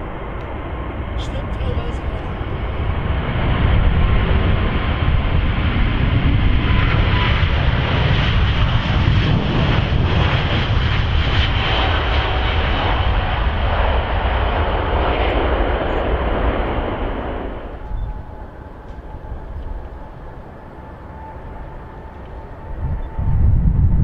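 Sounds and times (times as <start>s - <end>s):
airliner engines rumbling: 0.0s - 24.0s.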